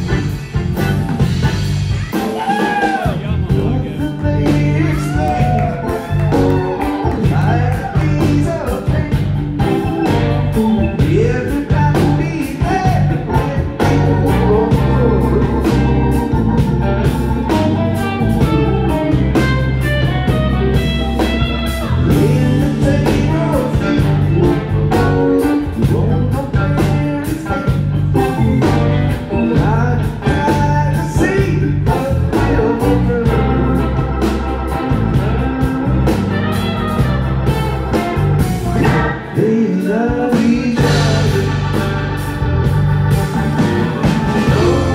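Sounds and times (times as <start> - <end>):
electric bass: 0.0 - 44.9
electric guitar: 0.0 - 44.9
keyboards: 0.0 - 44.9.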